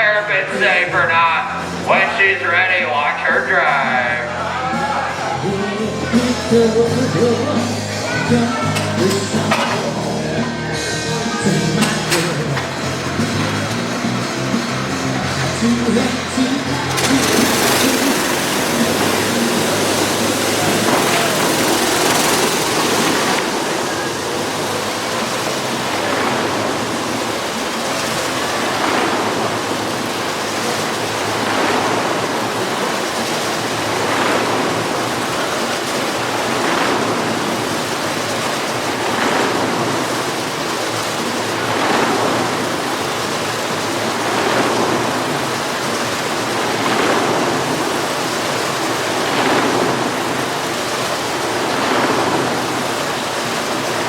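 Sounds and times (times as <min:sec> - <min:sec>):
go-kart engine passing: 0:00.0 - 0:54.0.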